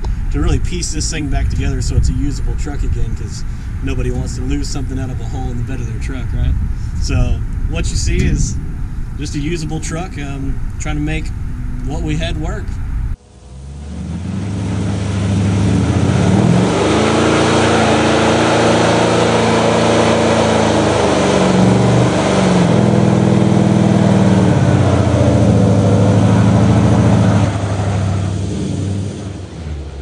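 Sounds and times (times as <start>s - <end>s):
truck engine at high revs: 0.0s - 30.0s.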